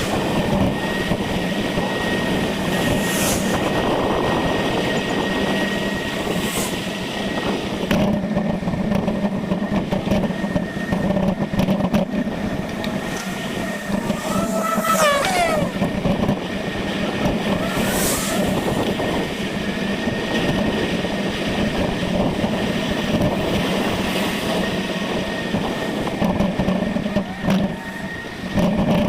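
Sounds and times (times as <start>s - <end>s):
bicycle road and wind noise: 0.0s - 29.0s.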